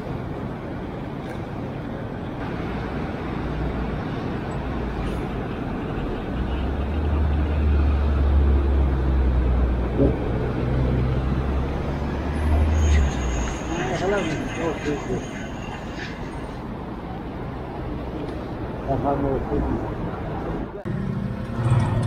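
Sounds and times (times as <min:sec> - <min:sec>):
road traffic: 0:00.0 - 0:22.0
vehicle engine hum: 0:00.0 - 0:22.0.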